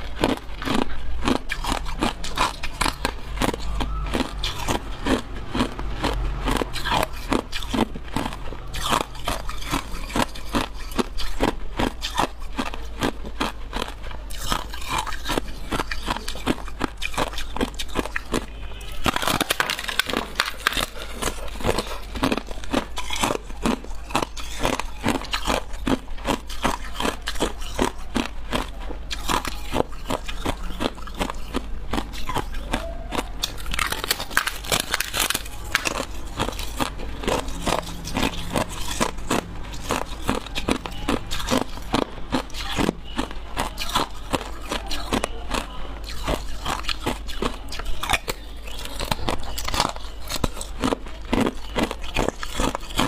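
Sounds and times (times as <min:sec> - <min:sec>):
ice crunched between teeth: 0:00.0 - 0:53.0.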